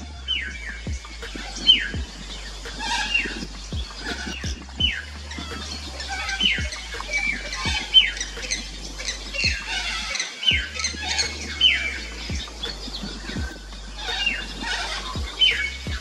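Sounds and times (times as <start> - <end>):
birds twittering: 0.0 - 16.0.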